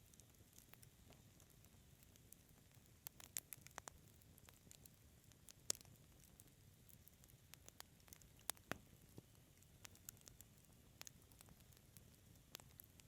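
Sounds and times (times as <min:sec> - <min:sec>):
faint low hiss: 0:00.0 - 0:13.0
wood fire crackling: 0:00.0 - 0:13.0.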